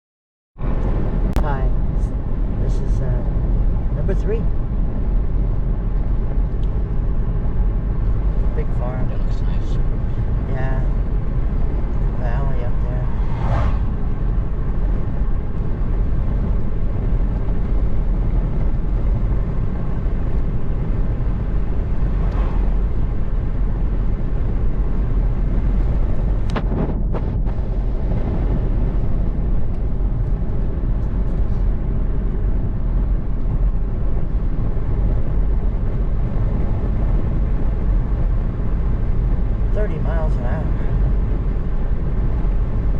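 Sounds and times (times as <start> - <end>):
car engine and tyres rumbling: 0.6 - 42.9.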